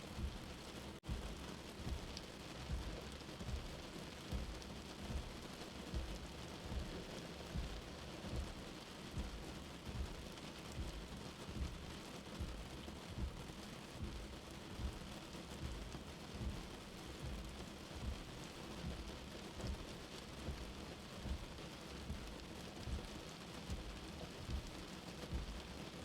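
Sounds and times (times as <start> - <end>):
steady rain: 0.0 - 26.0
heartbeat thumping: 0.1 - 26.0.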